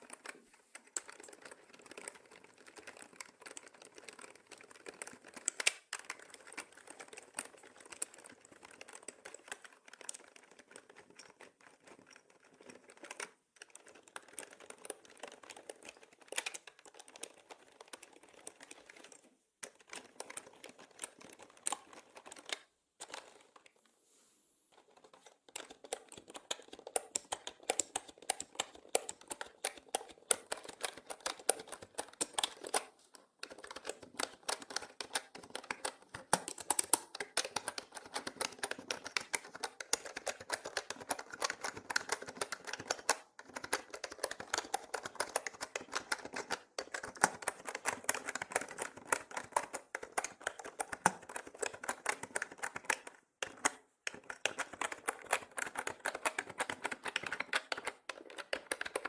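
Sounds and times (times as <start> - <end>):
mechanical keyboard typing: 0.0 - 23.6, 24.8 - 59.0.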